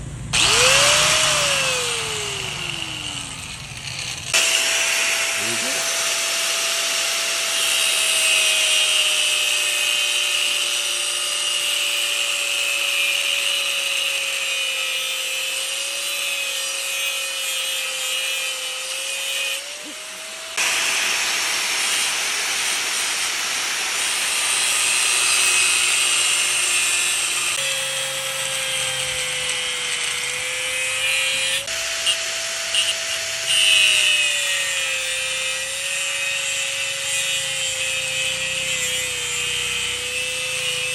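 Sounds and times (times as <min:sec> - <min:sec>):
angle grinder grinding steel: 0:00.3 - 0:40.9.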